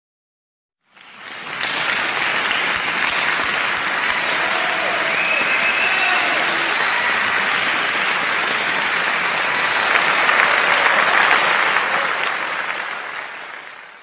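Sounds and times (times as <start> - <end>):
crowd applauding: 0.8 - 14.0.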